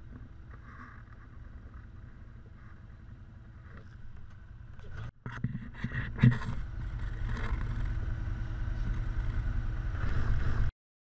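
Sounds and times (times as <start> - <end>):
off-road vehicle engine running: 0.0 - 10.7.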